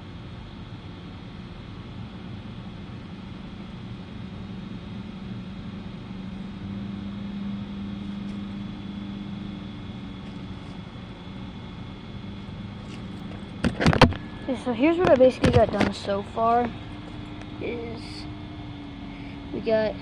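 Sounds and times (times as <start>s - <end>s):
distant engine humming: 1.0s - 20.0s.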